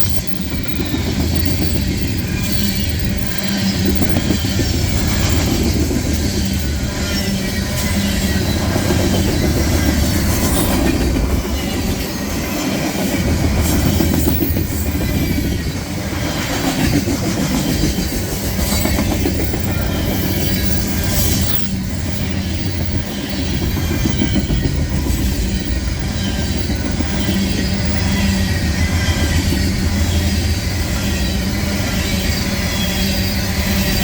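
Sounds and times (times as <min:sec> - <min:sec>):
freight train rumbling: 0:00.0 - 0:34.0
wheels clicking over rail joints: 0:00.0 - 0:34.0.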